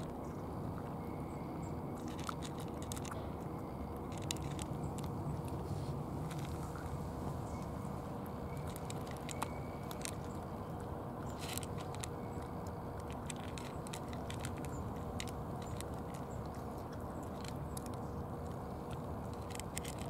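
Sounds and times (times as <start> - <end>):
cats crunching dry kibble: 0.0 - 1.0, 1.8 - 20.0
low background rumble: 0.0 - 20.0.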